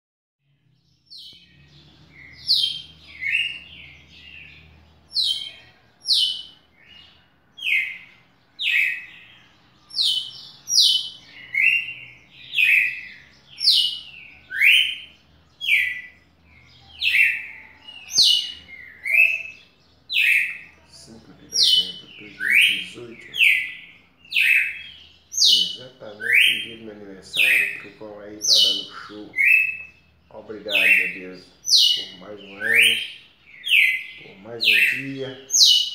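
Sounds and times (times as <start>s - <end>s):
bird singing whistled notes: 0.5s - 35.9s.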